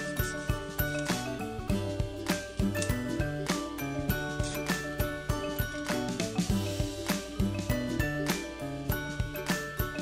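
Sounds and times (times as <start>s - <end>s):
music with clicking beat: 0.0s - 10.0s.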